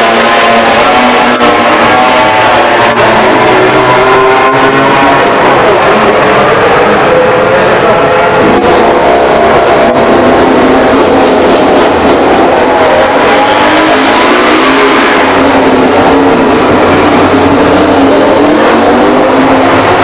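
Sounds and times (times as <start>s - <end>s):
racing motorcycle engine: 0.0s - 20.0s.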